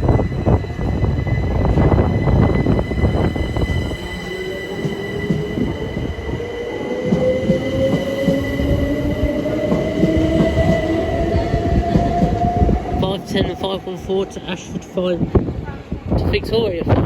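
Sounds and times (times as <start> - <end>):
rumble of train wheels: 0.0 - 17.0.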